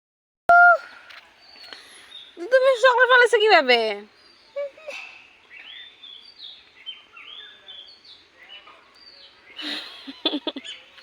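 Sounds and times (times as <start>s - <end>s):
faint birds chirping: 0.8s - 11.0s.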